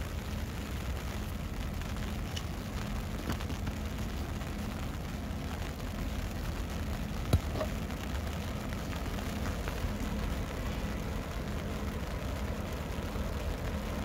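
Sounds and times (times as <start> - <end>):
distant diesel locomotive rumble: 0.0 - 14.0.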